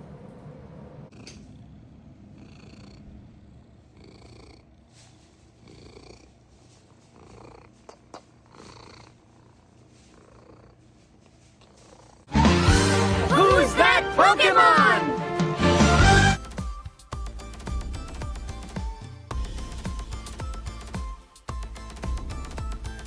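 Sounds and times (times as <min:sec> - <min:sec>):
cat purring: 0:00.0 - 0:13.0, 0:17.2 - 0:23.0.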